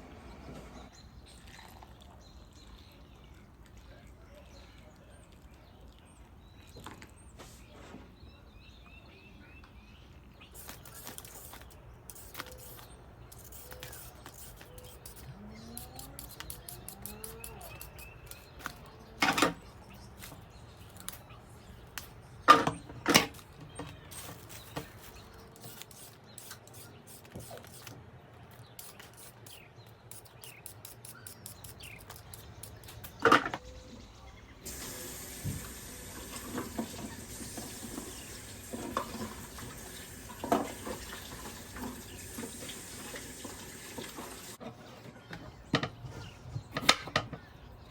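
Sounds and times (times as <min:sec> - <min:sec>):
faint birds chirping: 0:00.0 - 0:47.9.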